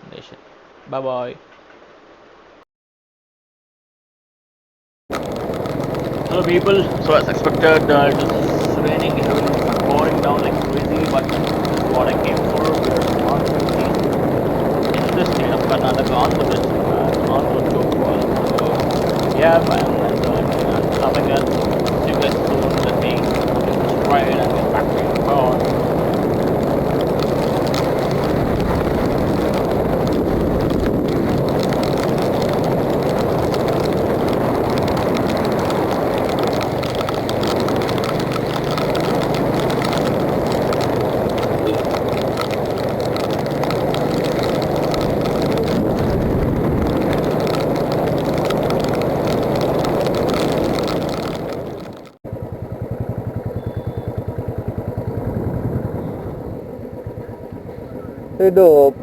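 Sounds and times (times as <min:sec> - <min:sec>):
motorcycle engine running: 0:05.1 - 0:59.0
wind and rain noise: 0:05.1 - 0:59.0.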